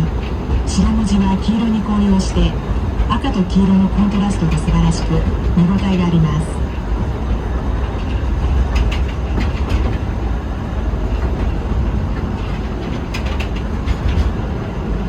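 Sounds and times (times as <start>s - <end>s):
train low rumble: 0.0s - 15.0s
wheels clicking over rail joints: 0.0s - 15.0s.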